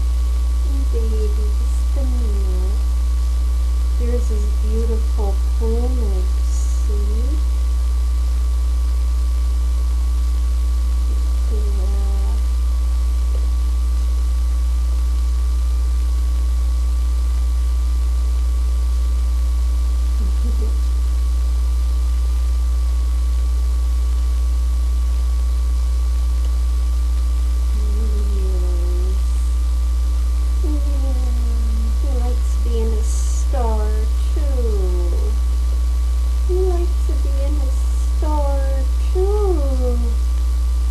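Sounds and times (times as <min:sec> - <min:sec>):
low mains hum: 0:00.0 - 0:40.9.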